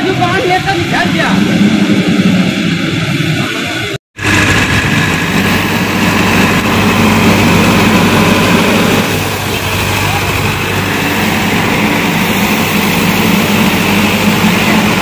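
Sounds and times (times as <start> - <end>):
diesel tractor engines running: 0.0 - 15.0.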